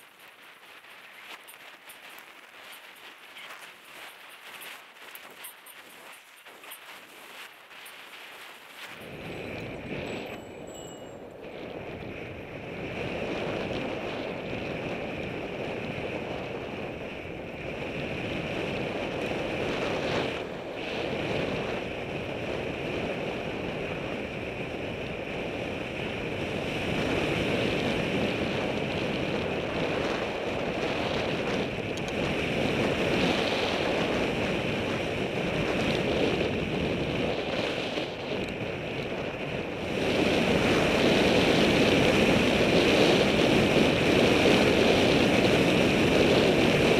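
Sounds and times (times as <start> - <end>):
road noise: 0.0 - 46.9
wind rushing over microphone: 0.0 - 46.9.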